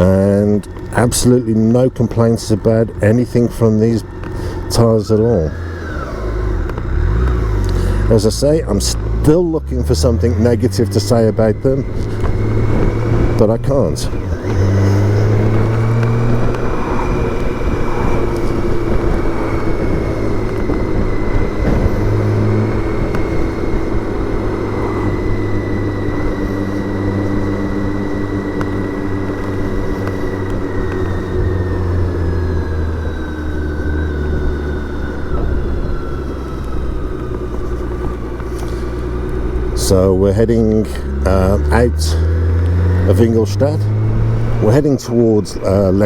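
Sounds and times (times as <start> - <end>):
motorcycle engine cruising: 0.0 - 46.0
thin whine: 0.0 - 46.0
wind and road noise: 0.0 - 46.0.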